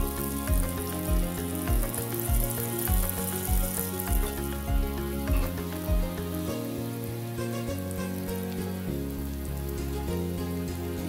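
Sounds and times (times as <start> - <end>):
background music with steady beat: 0.0 - 11.0
batter deep-frying in oil: 0.0 - 11.0.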